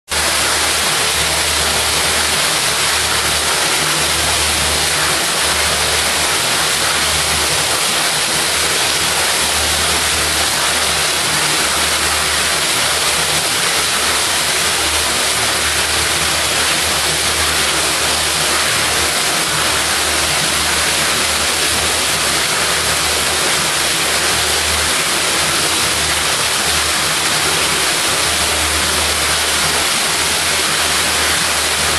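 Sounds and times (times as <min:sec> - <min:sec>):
water rushing and splashing: 0:00.1 - 0:31.9.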